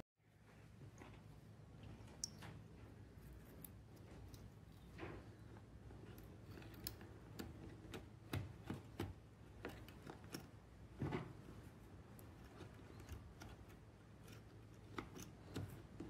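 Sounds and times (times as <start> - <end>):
small parts clicking and knocking: 2.0 - 16.0.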